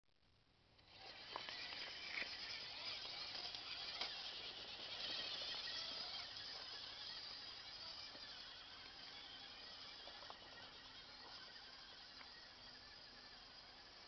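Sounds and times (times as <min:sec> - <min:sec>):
rc car motor hissing: 0:00.5 - 0:14.0
tyres clicking on rock: 0:00.8 - 0:12.6.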